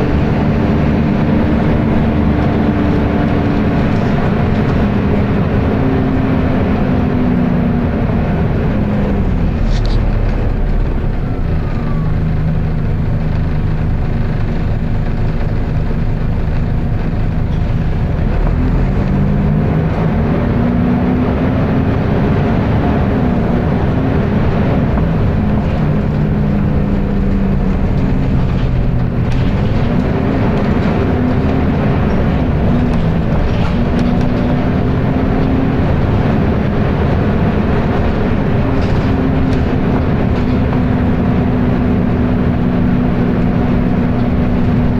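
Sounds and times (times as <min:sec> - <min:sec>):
bus cooling fan roar: 0:00.0 - 0:44.9
diesel engine rising and falling: 0:00.0 - 0:44.9.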